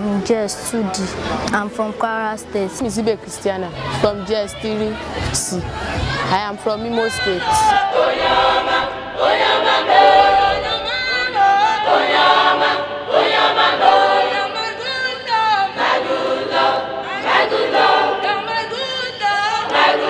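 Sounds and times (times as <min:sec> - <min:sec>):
choir singing a cappella: 0:01.2 - 0:20.0.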